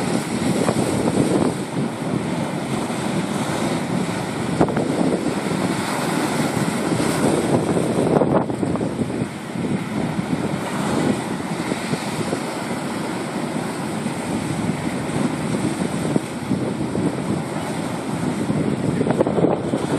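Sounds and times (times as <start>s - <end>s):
surf breaking over rocks: 0.0s - 19.9s
wind buffeting microphone: 0.0s - 19.9s.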